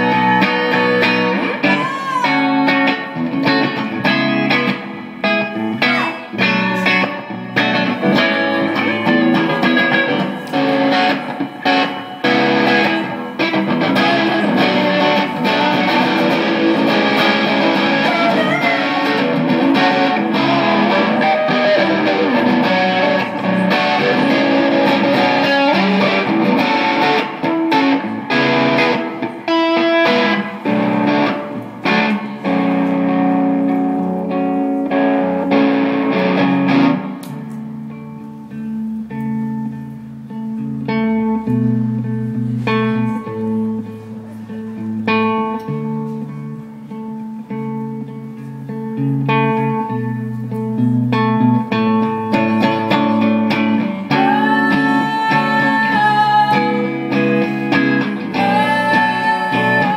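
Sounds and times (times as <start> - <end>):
live rock music with electric guitar: 0.0 - 59.9.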